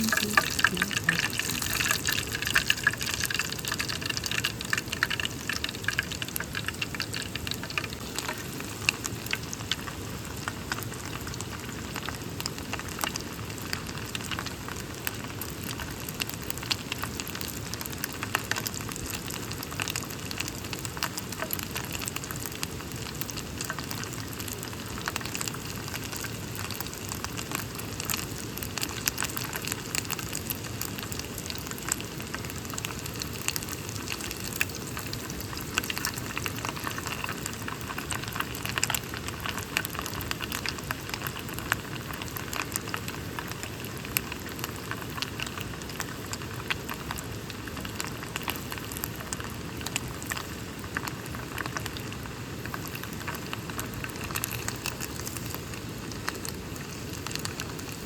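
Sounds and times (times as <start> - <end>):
food frying in a pan: 0.0 - 58.0.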